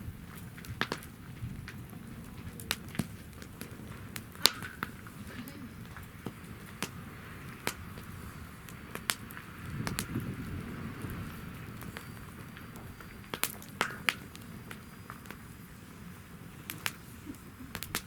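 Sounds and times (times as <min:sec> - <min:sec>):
low noise of flames: 0:00.0 - 0:18.0
wood fire crackling and popping: 0:00.0 - 0:18.0.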